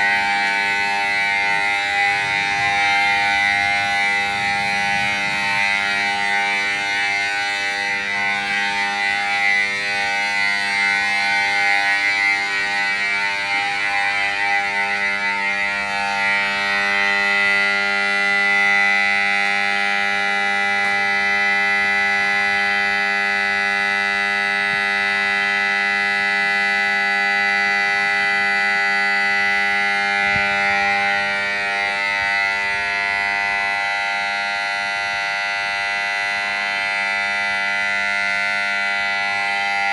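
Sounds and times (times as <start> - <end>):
loud electronic alarm tones: 0.0 - 39.9.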